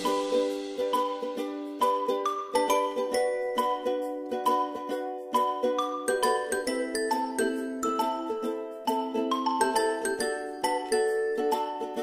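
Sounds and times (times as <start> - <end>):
bell-like melody: 0.0 - 12.0.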